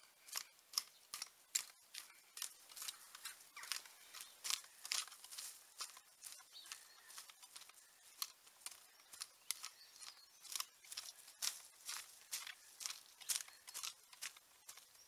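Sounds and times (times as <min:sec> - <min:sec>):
cultivator tines chopping soil: 0:00.0 - 0:15.0.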